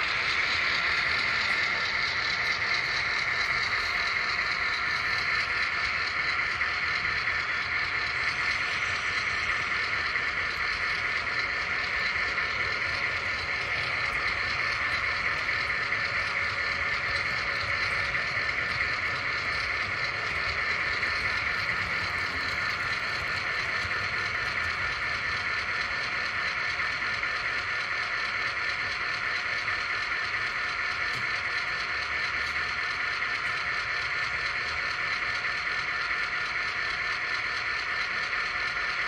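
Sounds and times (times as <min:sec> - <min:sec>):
model train wheels clattering on rails: 0:00.0 - 0:39.0.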